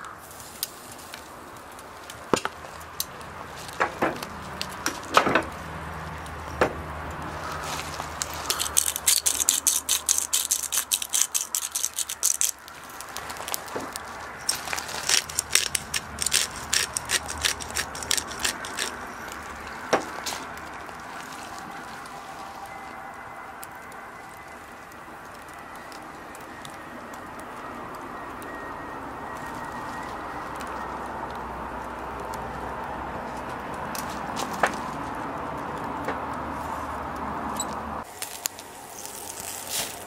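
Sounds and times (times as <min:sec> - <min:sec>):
meat crackling and sizzling on grill: 0:00.0 - 0:40.0.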